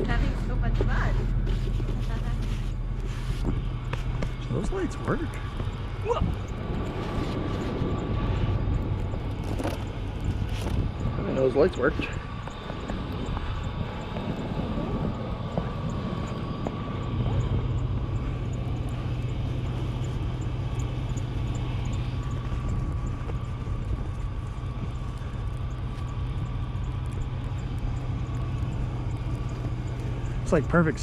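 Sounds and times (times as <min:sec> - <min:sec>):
motor droning with whine: 0:00.0 - 0:31.0
faint regular ticking: 0:02.2 - 0:31.0.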